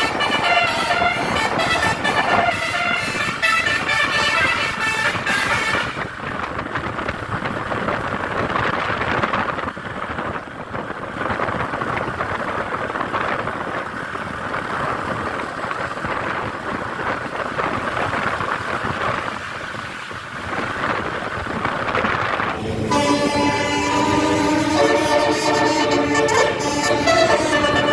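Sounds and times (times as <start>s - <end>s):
road noise from passing vehicles: 0.0s - 27.9s.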